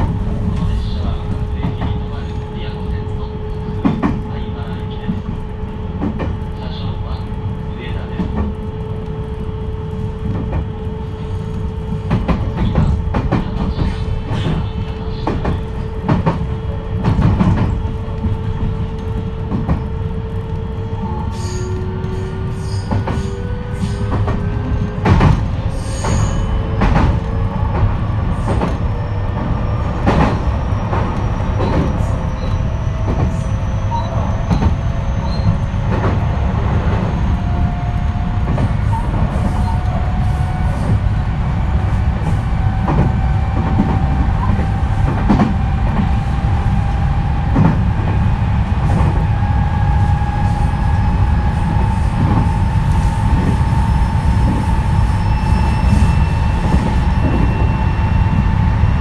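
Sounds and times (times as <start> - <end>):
train inverter tones: 0.0 - 59.0
train rumble: 0.0 - 59.0.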